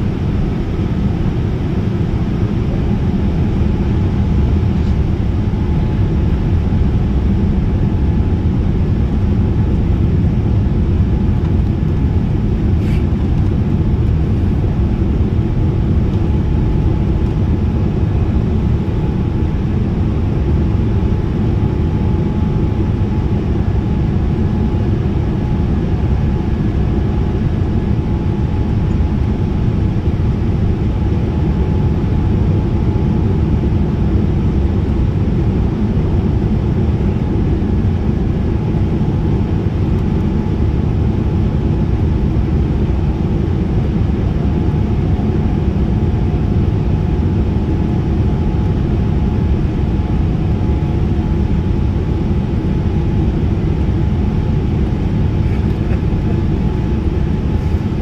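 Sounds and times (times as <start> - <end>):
air rushing along fuselage: 0.0 - 58.0
jet engine drone: 0.0 - 58.0.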